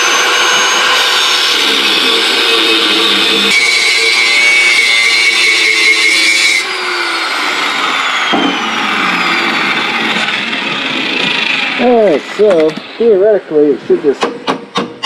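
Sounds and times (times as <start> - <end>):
grinder disc winding down: 0.0 - 13.2
angle grinder cutting metal: 0.0 - 15.0.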